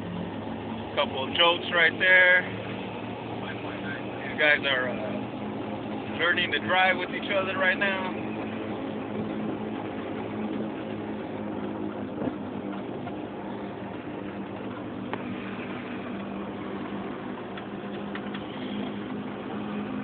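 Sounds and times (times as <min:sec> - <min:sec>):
road and drivetrain drone: 0:00.0 - 0:20.0.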